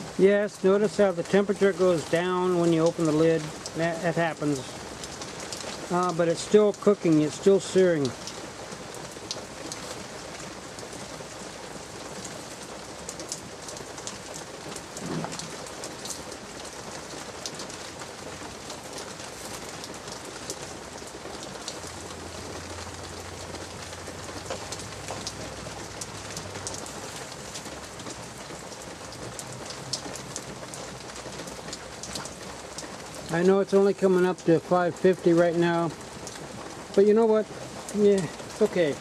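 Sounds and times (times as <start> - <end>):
light rain pattering: 0.0 - 39.0.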